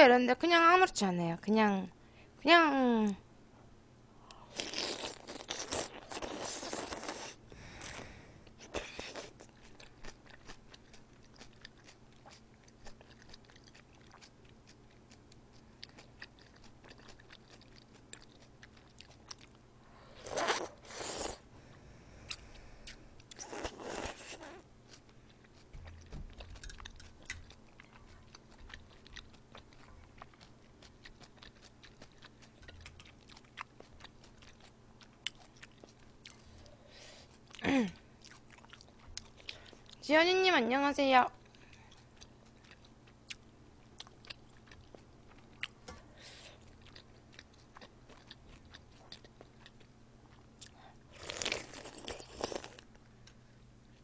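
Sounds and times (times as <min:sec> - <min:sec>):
soft chewing: 0:04.2 - 0:40.1, 0:41.3 - 0:54.0.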